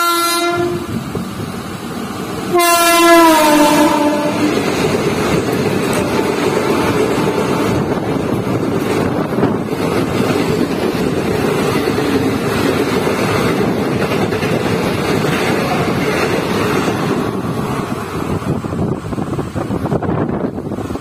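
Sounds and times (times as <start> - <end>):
train wheels rushing on rail: 0.0 - 21.0
wind buffeting microphone: 0.4 - 21.0.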